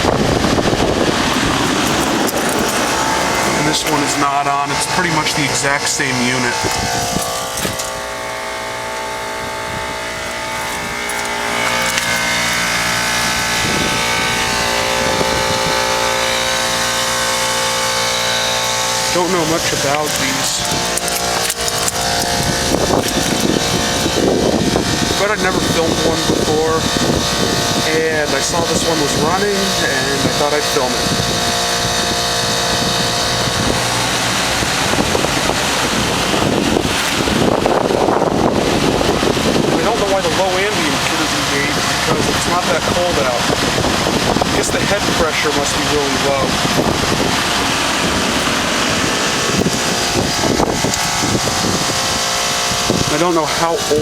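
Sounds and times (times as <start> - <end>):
compressor hum: 0.0 - 54.0
fan rushing: 0.0 - 54.0
wind buffeting microphone: 0.0 - 54.0.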